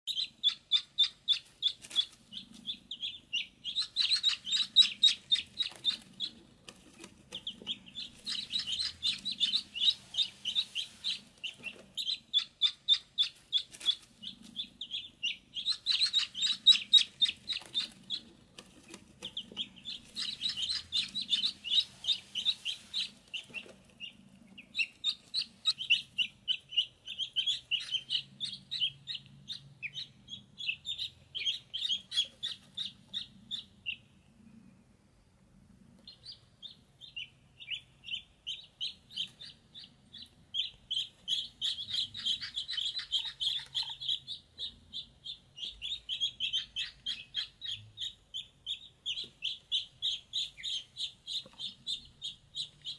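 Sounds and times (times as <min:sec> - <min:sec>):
ducklings peeping: 0:00.0 - 0:52.9.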